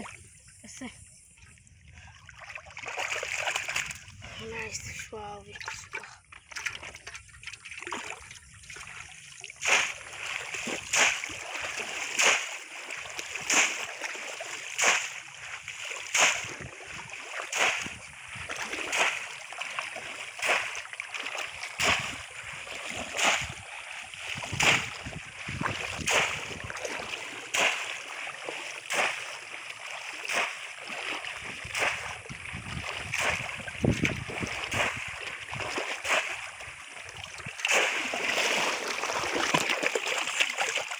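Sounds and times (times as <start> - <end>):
water pouring and sloshing: 0.0 - 40.9
fish trap splashing in water: 2.6 - 4.0, 5.6 - 40.9.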